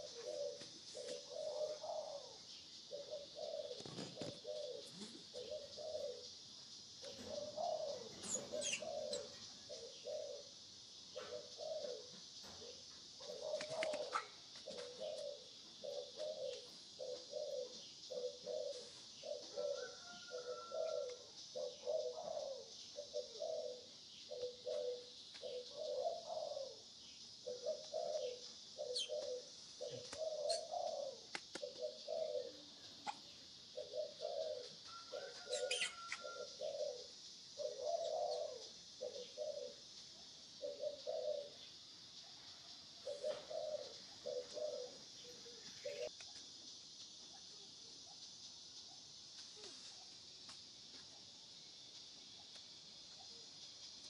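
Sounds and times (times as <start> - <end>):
dove cooing: 0.0 - 46.2
steady high-pitched hiss: 0.0 - 54.0.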